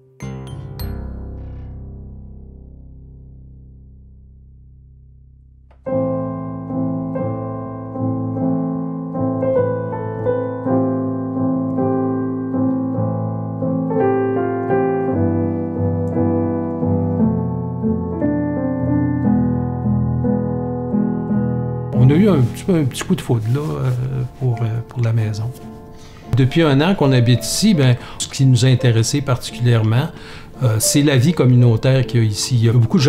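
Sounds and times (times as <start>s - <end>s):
digital piano playing: 0.0s - 3.4s, 5.7s - 33.0s.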